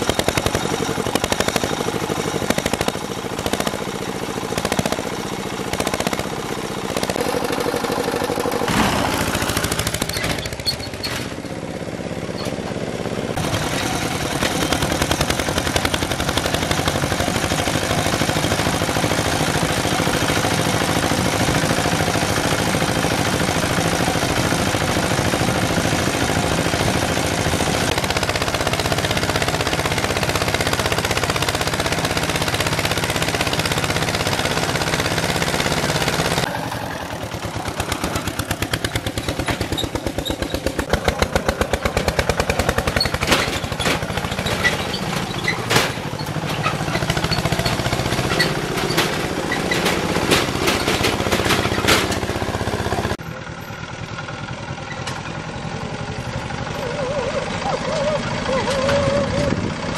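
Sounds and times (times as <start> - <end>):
diesel engine pounding exhaust beat: 0.0 - 59.9.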